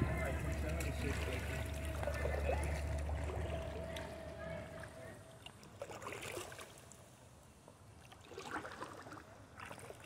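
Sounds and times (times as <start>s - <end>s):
paddle splashing water: 0.0s - 10.0s.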